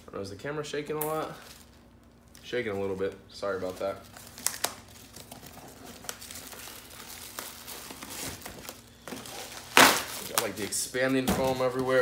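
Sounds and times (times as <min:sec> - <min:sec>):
plastic foam packing crinkling: 0:01.4 - 0:12.0.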